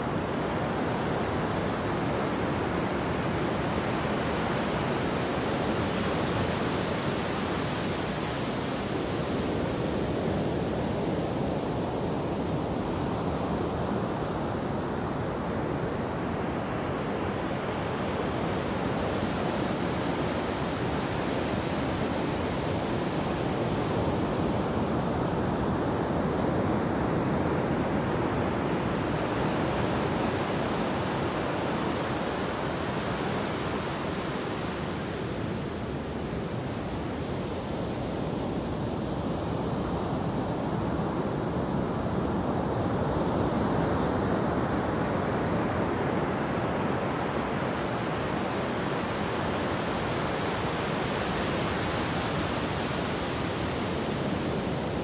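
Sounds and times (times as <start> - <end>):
ocean surf breaking on beach: 0.0 - 55.0.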